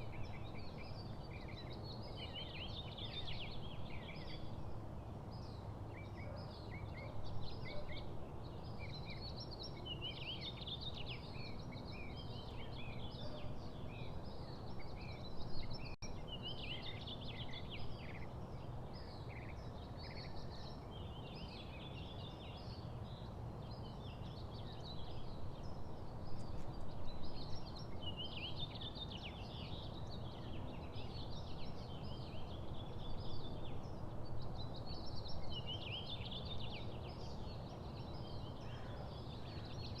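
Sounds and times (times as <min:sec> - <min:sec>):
songbirds chirping and twittering: 0:00.0 - 0:40.0.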